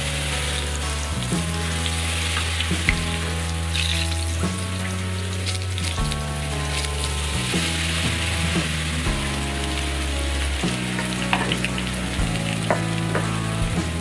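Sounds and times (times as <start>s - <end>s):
greens deep-frying in oil: 0.0s - 14.0s.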